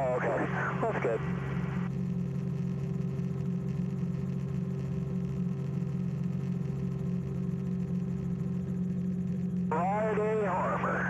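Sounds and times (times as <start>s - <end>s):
small aircraft engine drone: 0.0s - 11.0s.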